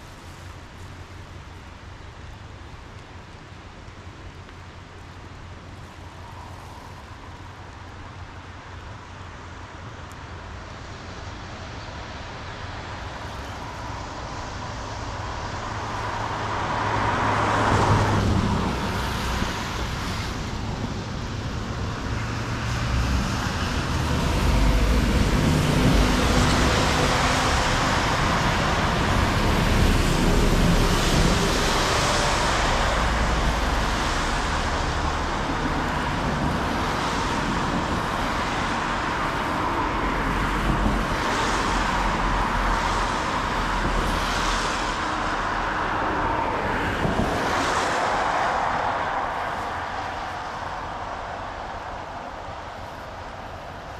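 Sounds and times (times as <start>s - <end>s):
traffic on a wet road: 0.0s - 53.9s.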